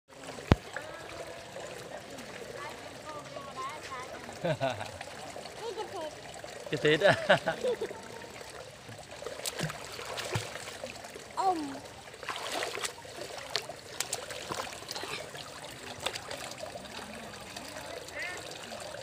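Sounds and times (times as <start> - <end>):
pool water splashing: 0.1 - 19.0.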